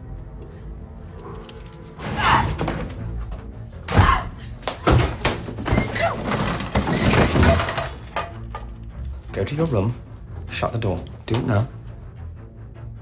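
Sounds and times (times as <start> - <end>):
film soundtrack music: 0.0 - 13.0.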